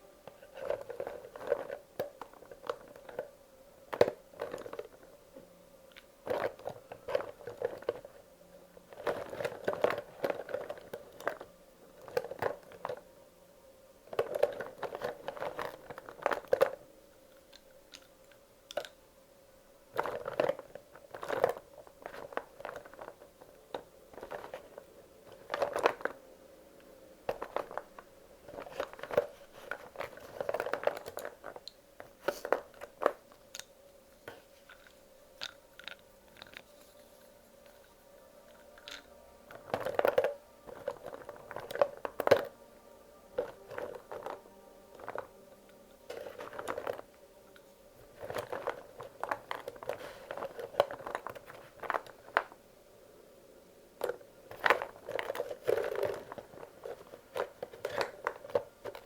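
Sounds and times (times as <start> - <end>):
crayons clicking and clattering: 0.3 - 5.2, 5.9 - 8.2, 8.8 - 13.1, 14.0 - 19.0, 19.9 - 26.2, 26.8 - 52.6, 54.0 - 59.0.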